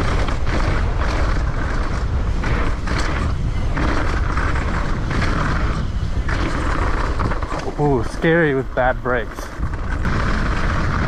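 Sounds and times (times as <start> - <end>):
bike tyre and mechanical clatter: 0.0 - 11.0
wind rumble on microphone: 0.0 - 11.0.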